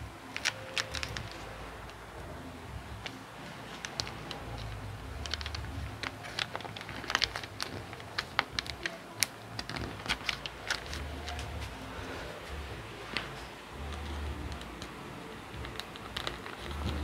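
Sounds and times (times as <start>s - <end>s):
plastic sheet crinkling: 0.2s - 1.6s, 3.0s - 14.9s, 15.6s - 17.0s.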